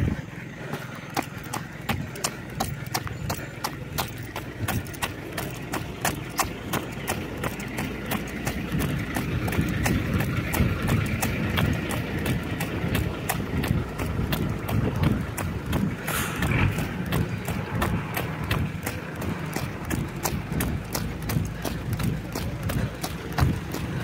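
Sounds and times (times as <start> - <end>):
running footsteps on asphalt: 0.0 - 24.0
low rumble: 3.9 - 24.0.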